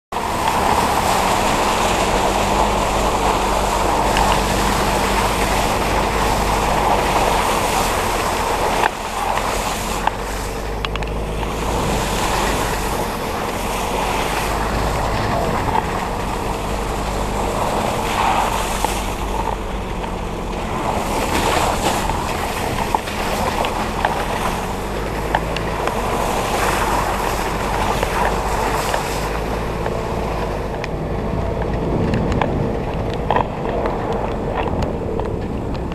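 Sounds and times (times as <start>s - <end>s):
vehicle engine running: 0.1s - 35.9s
wind rushing over microphone: 0.1s - 35.9s.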